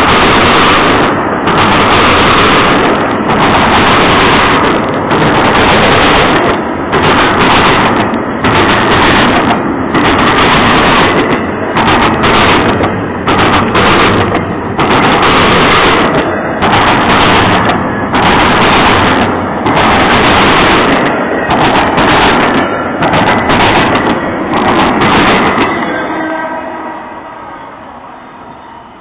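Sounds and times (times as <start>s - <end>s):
freight train passing close: 0.0s - 29.0s.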